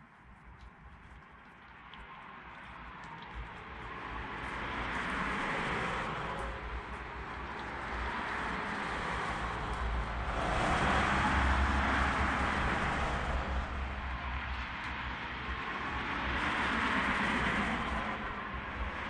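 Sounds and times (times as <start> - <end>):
road traffic rumble and hiss: 0.0 - 19.0.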